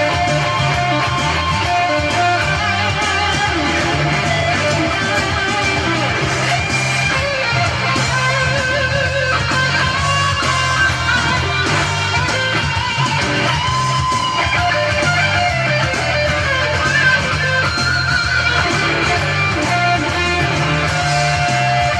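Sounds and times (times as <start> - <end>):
electric guitar lead lines: 0.0 - 21.9
steady bass line: 0.0 - 21.9.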